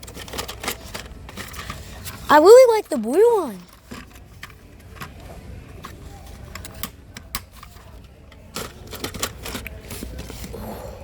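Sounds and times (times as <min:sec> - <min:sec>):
store background noise: 0:00.0 - 0:11.0.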